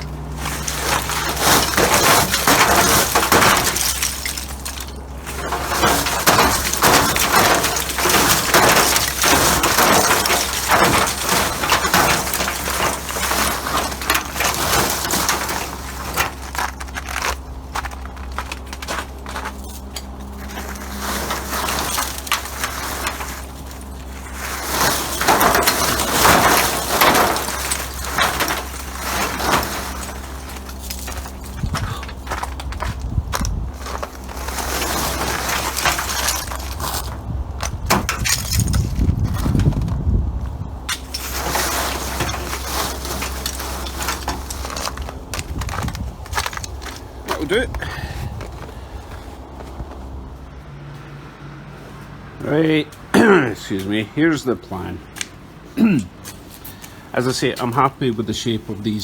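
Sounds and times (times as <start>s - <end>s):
crunching and scraping: 0.0s - 59.0s.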